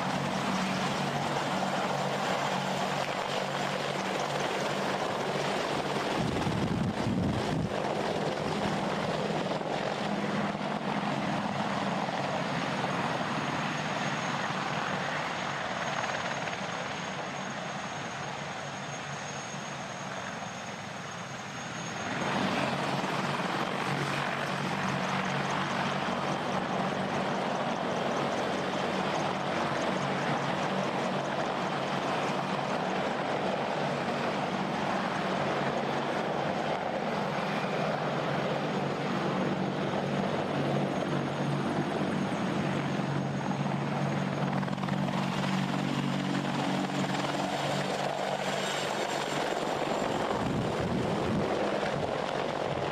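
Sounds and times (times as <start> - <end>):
helicopter rotor and engine noise: 0.0 - 52.9.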